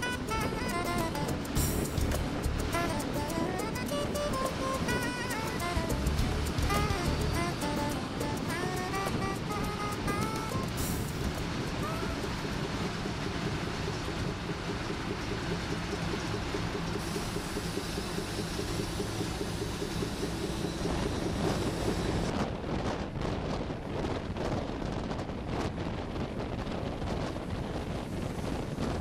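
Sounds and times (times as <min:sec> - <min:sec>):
wind gusts on microphone: 0:00.0 - 0:15.1, 0:20.1 - 0:29.0
railcar engine drone: 0:00.0 - 0:29.0
rushing air and track noise: 0:00.0 - 0:29.0.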